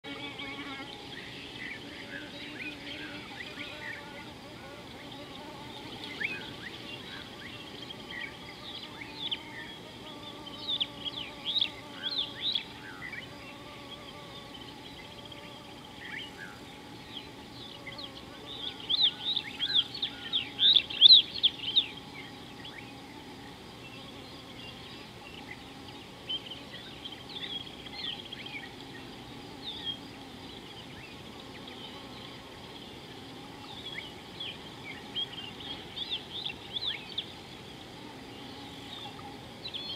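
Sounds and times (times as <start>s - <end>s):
birds chirping: 0.0s - 39.9s
outdoor background noise: 0.0s - 39.9s.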